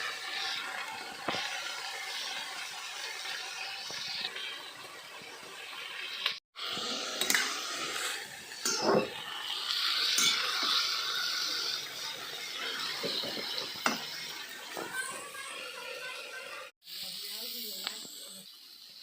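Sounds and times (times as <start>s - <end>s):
steady cooking hiss: 0.0s - 19.0s.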